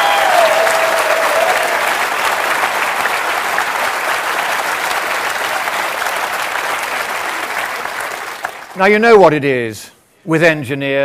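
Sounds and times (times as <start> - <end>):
large audience applauding: 0.0 - 8.9.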